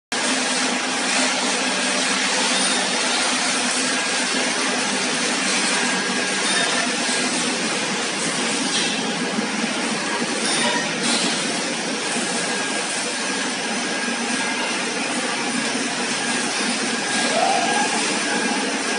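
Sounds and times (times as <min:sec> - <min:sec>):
tube mill mechanical din: 0:00.1 - 0:18.9.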